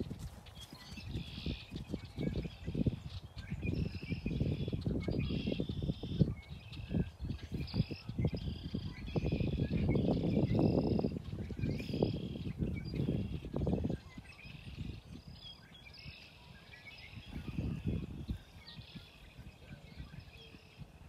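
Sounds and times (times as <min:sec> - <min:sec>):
birds singing: 0:00.0 - 0:21.0.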